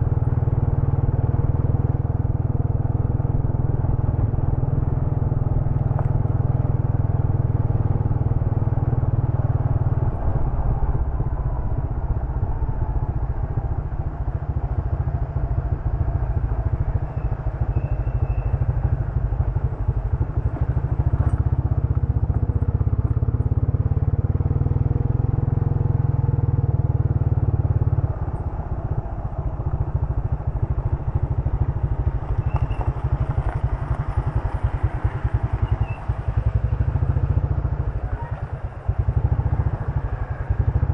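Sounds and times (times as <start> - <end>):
motorcycle engine rumble: 0.0 - 40.9.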